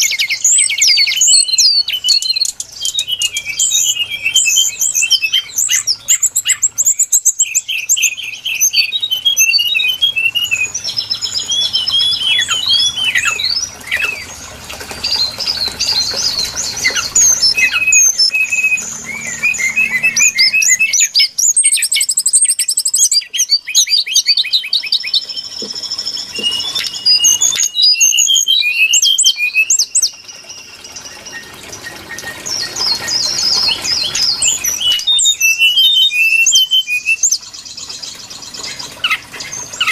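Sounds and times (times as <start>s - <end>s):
bird whistles and trills: 0.0s - 39.9s.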